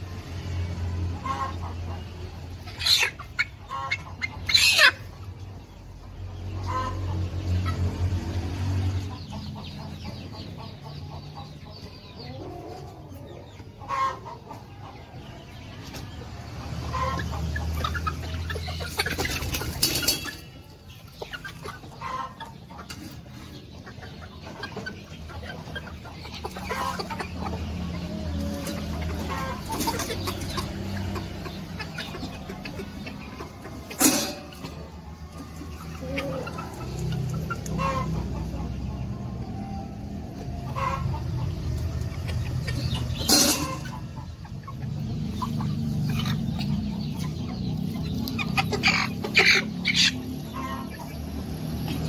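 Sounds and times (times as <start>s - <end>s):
chickens clucking and squawking: 0.0s - 52.0s.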